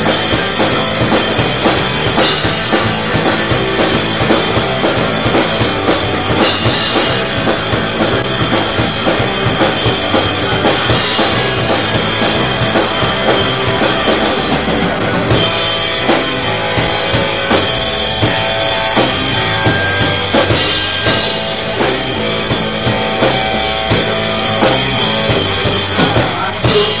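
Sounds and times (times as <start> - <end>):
punk band playing: 0.0 - 27.0.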